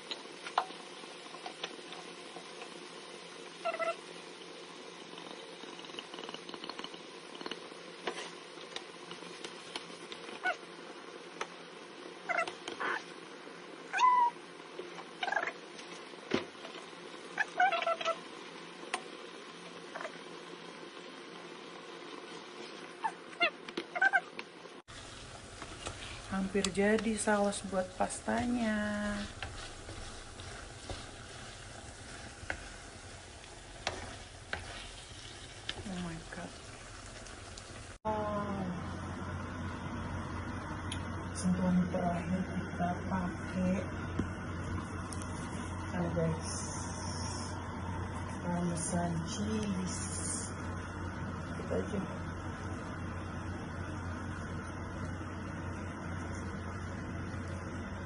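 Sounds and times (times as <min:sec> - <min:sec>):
meat sauce cooking: 0:00.0 - 0:23.8, 0:24.4 - 0:58.0.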